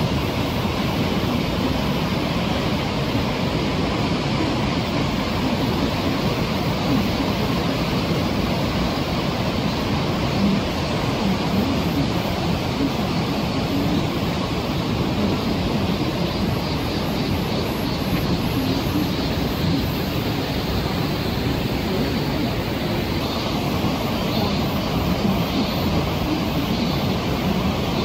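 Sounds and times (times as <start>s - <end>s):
river rapids rushing: 0.0s - 28.0s.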